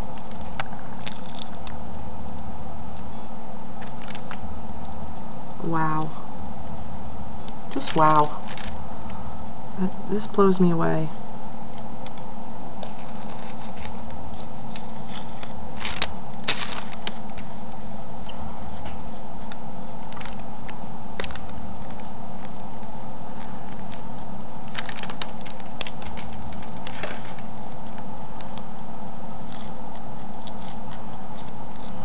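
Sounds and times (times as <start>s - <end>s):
paper crackling and scratching: 0.0s - 5.6s, 6.6s - 8.8s, 12.8s - 32.0s
steady background hum: 0.0s - 32.0s.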